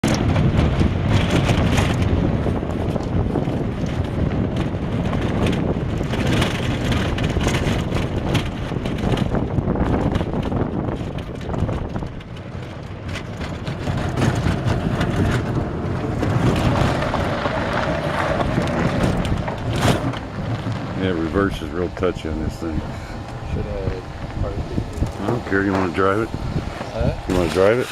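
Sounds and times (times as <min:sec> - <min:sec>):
golf cart driving: 0:00.0 - 0:27.9
rattling: 0:00.0 - 0:27.9
wind buffeting microphone: 0:00.0 - 0:27.9.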